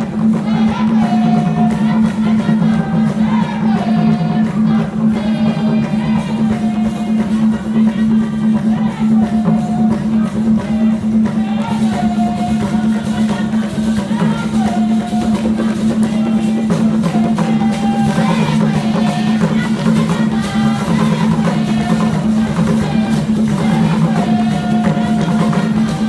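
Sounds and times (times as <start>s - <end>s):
voices singing: 0.0s - 26.0s.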